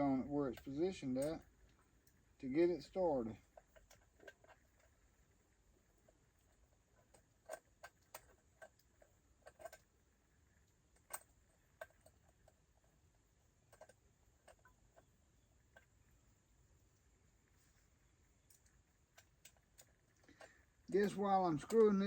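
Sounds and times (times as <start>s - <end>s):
small parts clicking: 0.0s - 16.2s, 16.8s - 22.0s.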